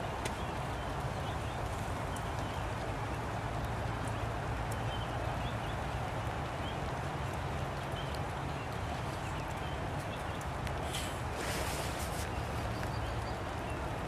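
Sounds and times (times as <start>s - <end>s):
faint drip clicks: 0.0s - 11.1s, 12.2s - 14.0s
rain pattering on umbrellas: 0.0s - 14.0s.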